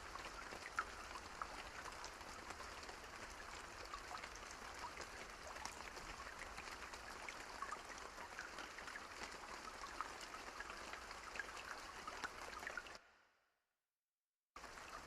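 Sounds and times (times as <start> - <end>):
steady rain: 0.0 - 12.9, 14.6 - 15.0.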